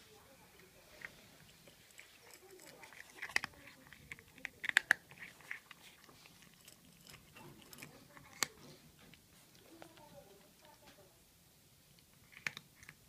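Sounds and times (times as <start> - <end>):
cat crunching dry kibble: 0.9 - 11.1, 11.8 - 13.0.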